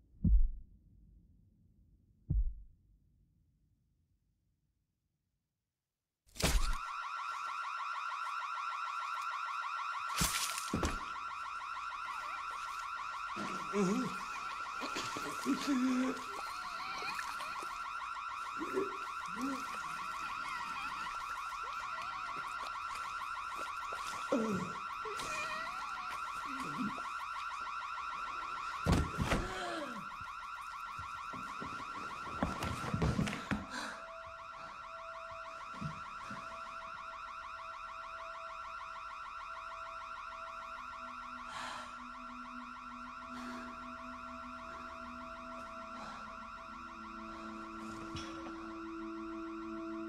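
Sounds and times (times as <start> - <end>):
high-pitched electronic alarm: 6.7 - 50.0.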